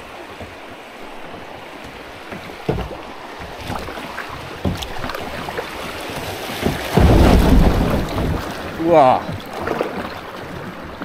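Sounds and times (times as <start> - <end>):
paddle splashing in river water: 0.0 - 11.0
strong paddle splashes: 0.0 - 11.0.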